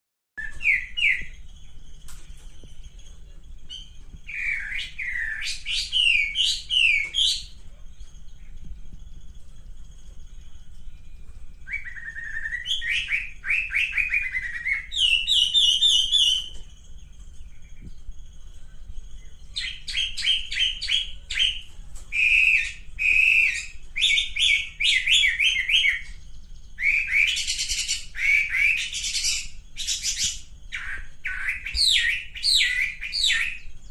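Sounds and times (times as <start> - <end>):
bird singing rapid chirps: 0.4 - 33.9
faint steady hum: 0.4 - 33.9.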